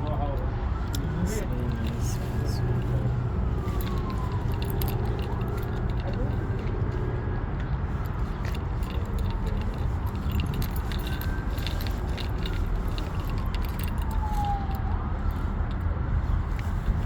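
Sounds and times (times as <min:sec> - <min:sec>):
faint siren: 0:00.0 - 0:17.0
low traffic rumble: 0:00.0 - 0:17.0
small jingling clicks: 0:00.9 - 0:17.0.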